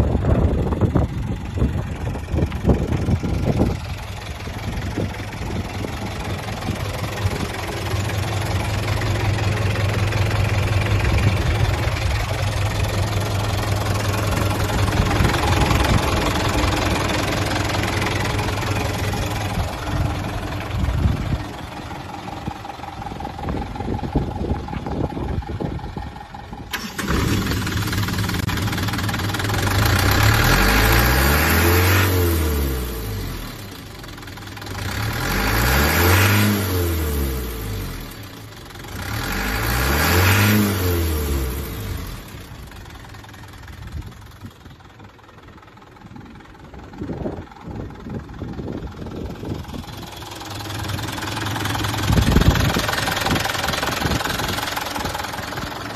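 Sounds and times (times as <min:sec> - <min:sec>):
diesel engine idling and revving: 0:00.0 - 0:55.9.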